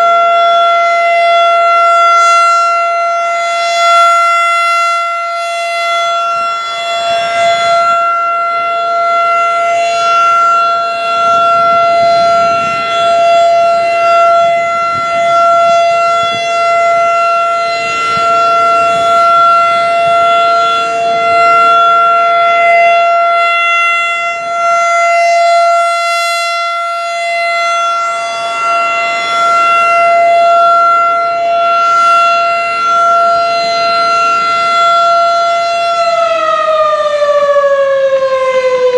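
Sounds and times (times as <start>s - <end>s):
lower steady siren tone: 0.0s - 38.9s
warning siren steady tone: 0.0s - 38.9s.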